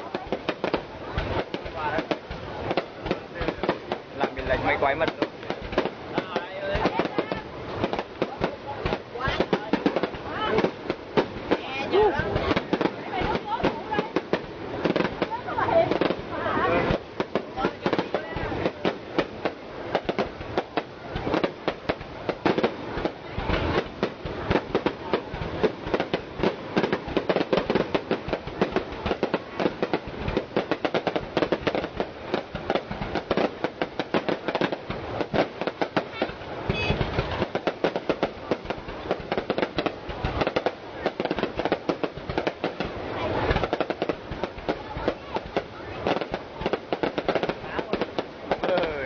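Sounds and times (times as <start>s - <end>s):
deep firework bangs: 0.0s - 49.0s
fireworks crackling: 0.0s - 49.0s.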